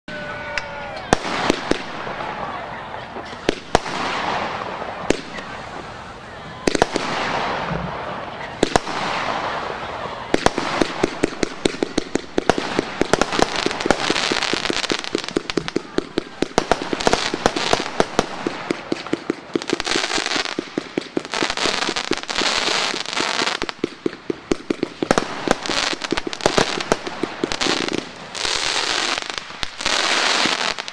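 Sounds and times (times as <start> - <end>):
firework crackling pops and bangs: 0.2 - 30.9
firework hiss: 3.2 - 30.9.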